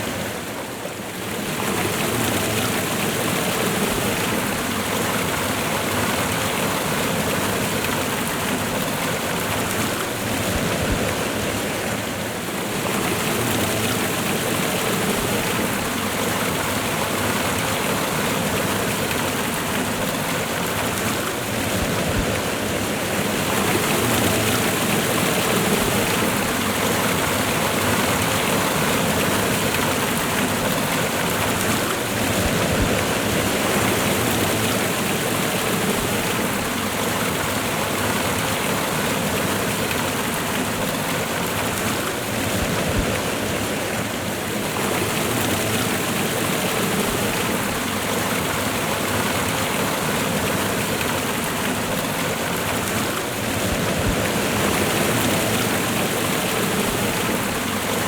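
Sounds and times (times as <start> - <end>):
waterfall and rushing river: 0.0 - 58.0.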